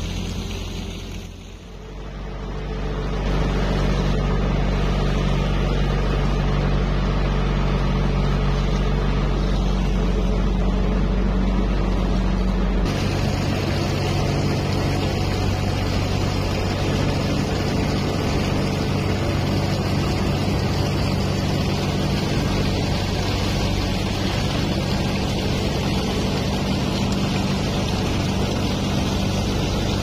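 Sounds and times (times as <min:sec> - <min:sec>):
boat engine humming: 0:00.0 - 0:30.0
water wash: 0:00.0 - 0:30.0.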